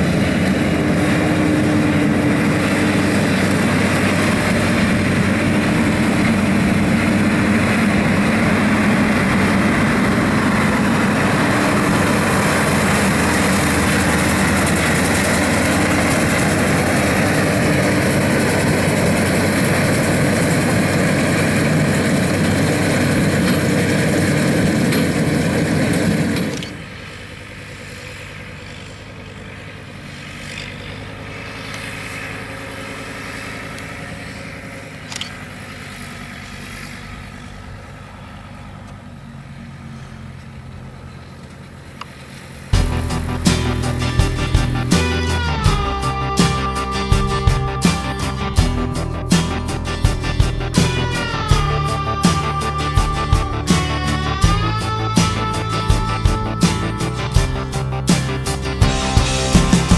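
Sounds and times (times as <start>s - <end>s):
quiet steady tractor engine: 0.0s - 59.9s
tractor engine and baler drone: 0.0s - 59.9s.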